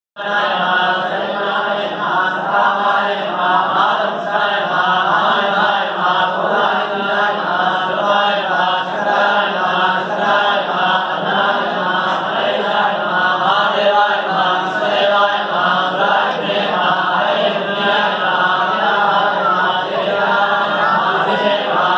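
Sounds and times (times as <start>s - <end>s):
group of men chanting: 0.2s - 21.9s.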